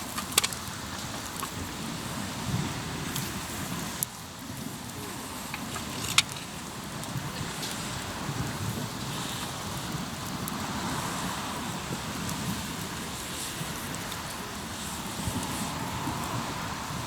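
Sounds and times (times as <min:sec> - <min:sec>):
campfire crackling: 0:00.0 - 0:17.0
steady rushing noise: 0:00.0 - 0:17.0.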